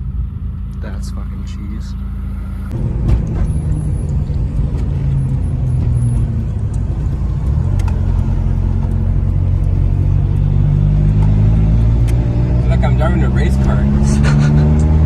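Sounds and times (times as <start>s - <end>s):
car engine revving from inside cabin: 2.0s - 15.0s.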